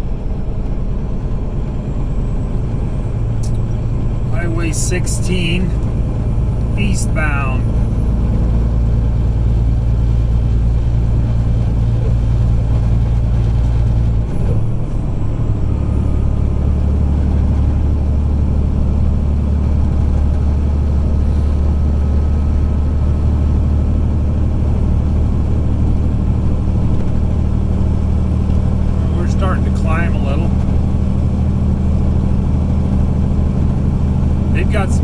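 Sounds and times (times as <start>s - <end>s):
truck diesel engine under load: 0.0s - 35.0s.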